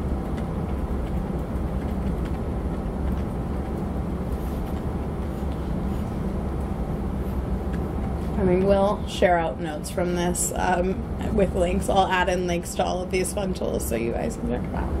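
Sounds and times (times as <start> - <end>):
faint hum: 0.0 - 15.0
room noise rumble and hiss: 0.0 - 15.0.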